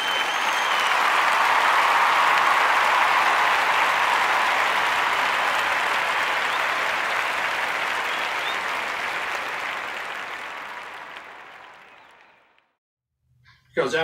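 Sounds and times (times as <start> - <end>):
audience applause: 0.0 - 12.8.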